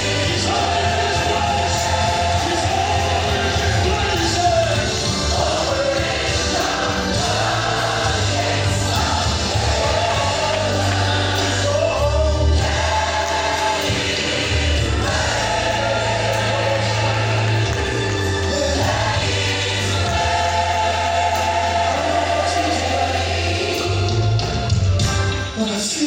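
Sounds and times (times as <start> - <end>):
choir singing: 0.0 - 25.0
bass and accompaniment: 0.0 - 26.0.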